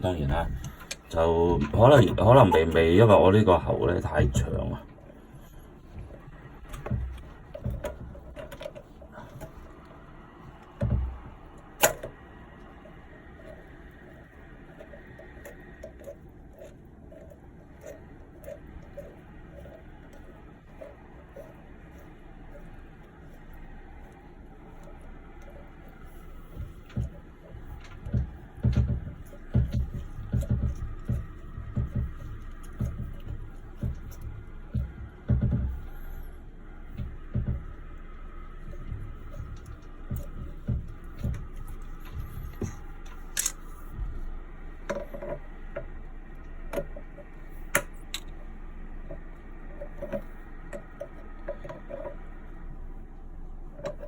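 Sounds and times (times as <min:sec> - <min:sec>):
low knocks from plumbing: 0:00.0 - 0:52.8.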